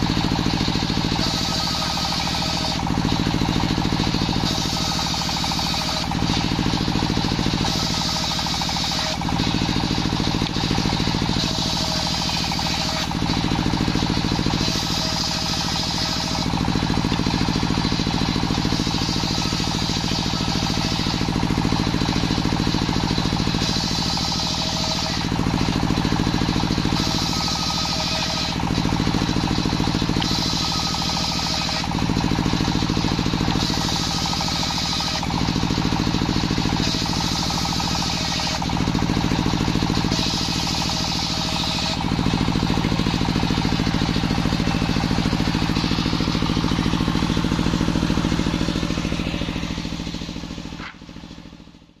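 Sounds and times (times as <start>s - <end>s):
table saw drone: 0.0s - 51.4s
saw cutting whine: 0.0s - 52.0s.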